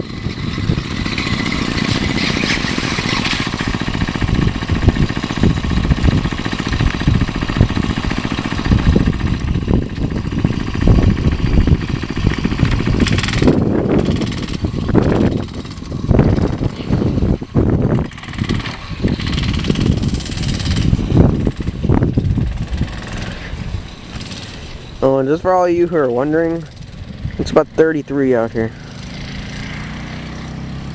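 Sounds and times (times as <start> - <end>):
small gasoline engine running: 0.0 - 30.9.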